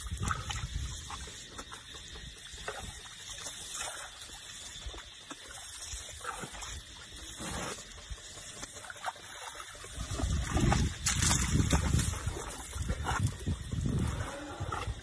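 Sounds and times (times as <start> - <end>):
small water splashes and dribbling: 0.0 - 15.0.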